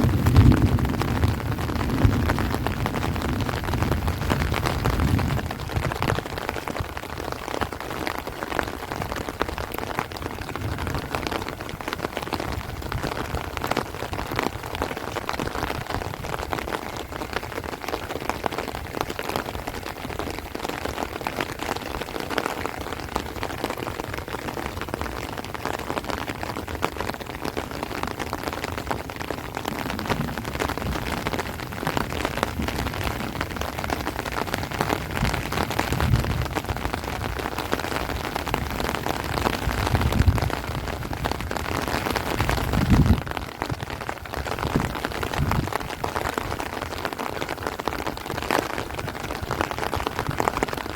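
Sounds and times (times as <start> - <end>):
heavy rain on plants and trees: 0.0 - 50.9.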